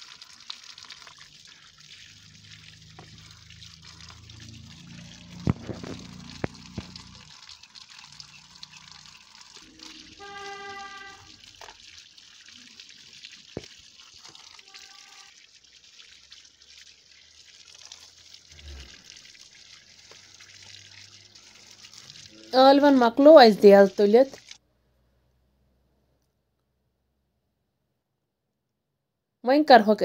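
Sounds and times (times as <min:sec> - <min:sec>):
water trickling over potatoes: 0:00.0 - 0:24.6.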